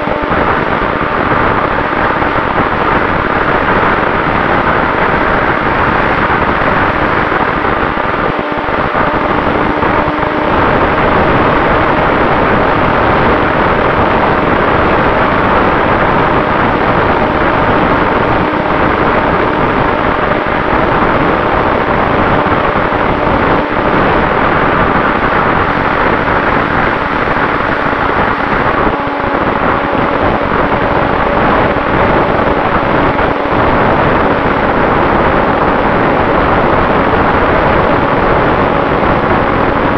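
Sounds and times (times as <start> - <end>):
faint motor and propeller hum: 0.0 - 39.9
wind rushing over microphone: 0.0 - 39.9.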